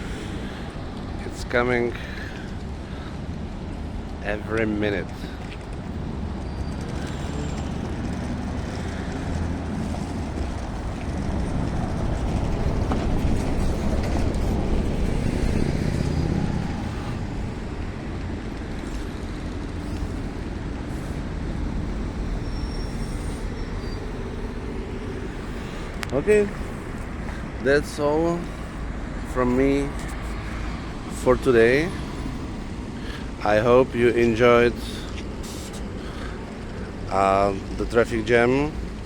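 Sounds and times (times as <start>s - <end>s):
vehicle passing by: 0.0s - 38.0s
buses running and idling: 0.0s - 39.0s.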